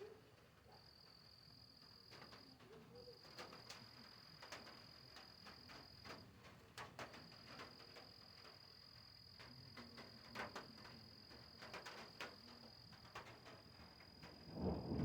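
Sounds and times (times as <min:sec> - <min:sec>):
light rain dripping: 0:00.0 - 0:15.0.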